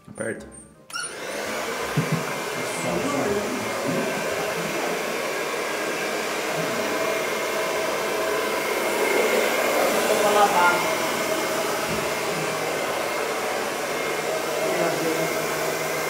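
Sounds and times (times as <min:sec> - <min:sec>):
hair dryer running: 0:00.9 - 0:16.0.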